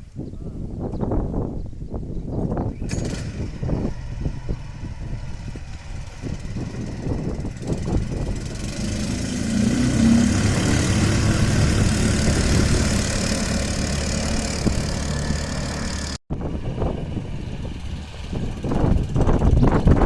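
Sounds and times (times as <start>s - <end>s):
wind noise: 0.0s - 20.0s
boat motor running: 3.9s - 20.0s.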